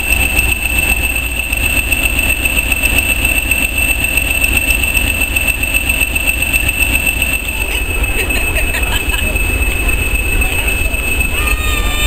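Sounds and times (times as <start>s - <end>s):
train rumbling on track: 0.0s - 12.0s
thin high whine: 0.2s - 12.0s.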